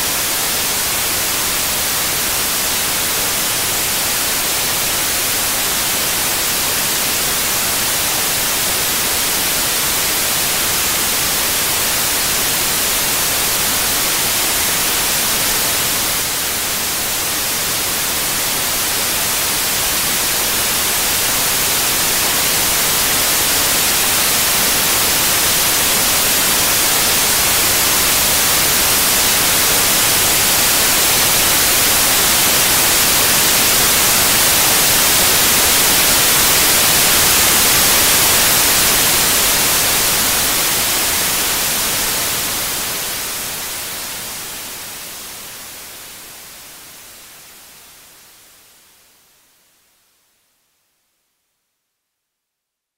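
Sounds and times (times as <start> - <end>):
white noise hiss: 0.0 - 52.9.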